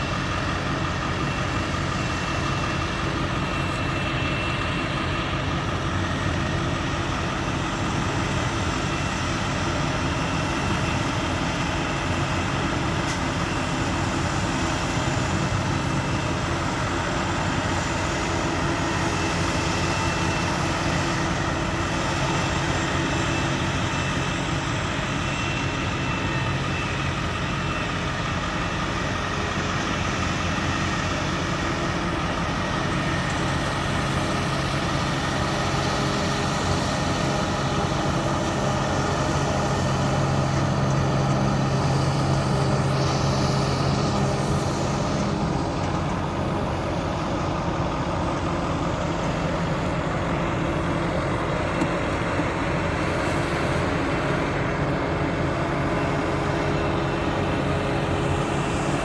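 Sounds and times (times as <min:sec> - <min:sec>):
farm machinery engine drone: 0:00.0 - 0:59.0.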